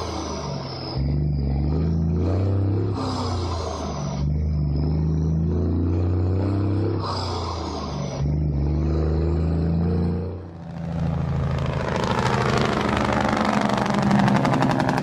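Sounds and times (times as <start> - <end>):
diesel truck engine pulsing: 0.0 - 15.0.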